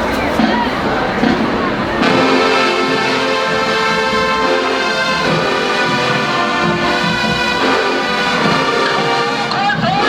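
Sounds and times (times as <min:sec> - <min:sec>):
brass section playing chords: 0:00.4 - 0:10.0.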